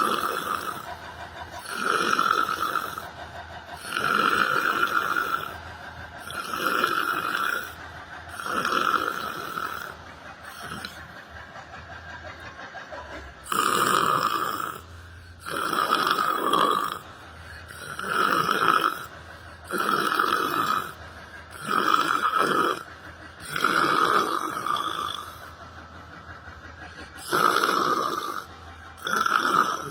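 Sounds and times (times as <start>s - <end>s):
person snoring: 0.0s - 5.6s, 6.2s - 11.1s, 13.4s - 25.5s, 27.2s - 29.9s.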